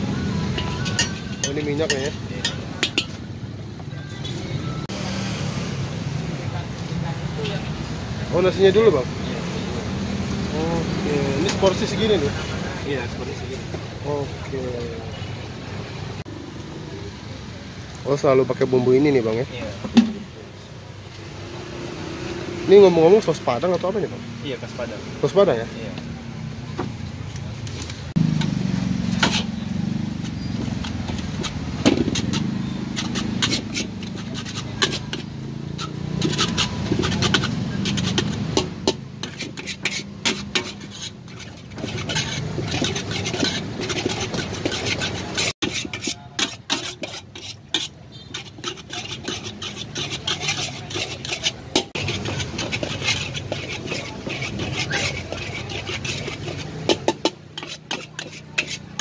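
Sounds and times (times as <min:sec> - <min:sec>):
metal spatula scraping wok: 0:00.0 - 0:16.2, 0:21.3 - 0:26.2, 0:27.0 - 0:59.0.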